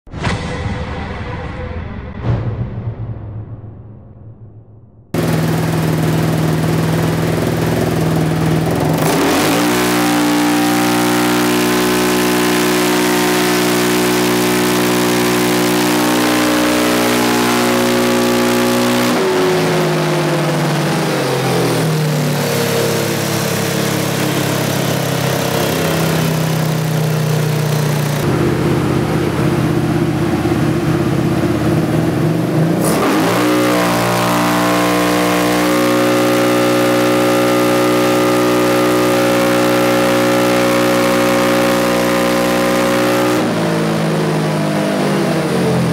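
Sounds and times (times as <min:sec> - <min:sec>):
engine revving on a dyno: 0:05.1 - 0:45.9.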